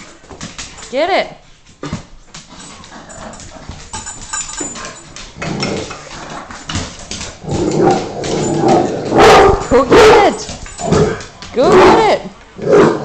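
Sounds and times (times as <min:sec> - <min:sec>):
dog claws clicking on floor: 0:00.0 - 0:12.5
dogs scuffling: 0:00.0 - 0:12.5.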